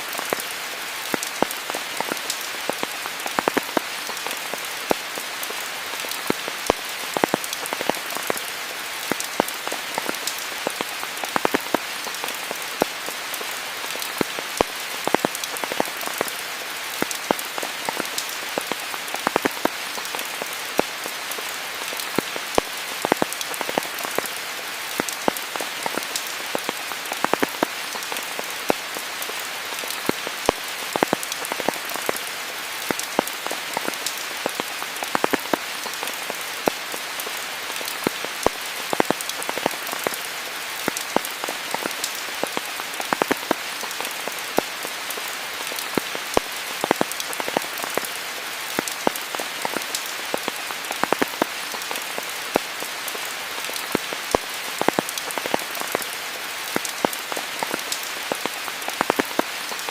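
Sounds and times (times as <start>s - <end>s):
raindrops pattering close by: 0.0s - 59.9s
steady rain hiss: 0.0s - 59.9s.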